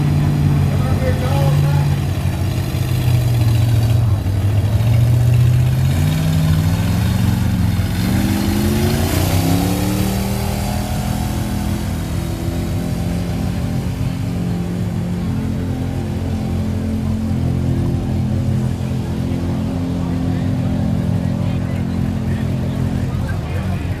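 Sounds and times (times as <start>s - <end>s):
truck engine revving under load: 0.0s - 24.0s.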